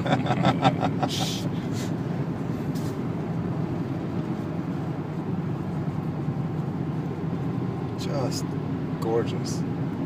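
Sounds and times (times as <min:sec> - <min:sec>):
low car engine hum: 0:00.0 - 0:10.0
tyre and road noise: 0:00.0 - 0:10.0.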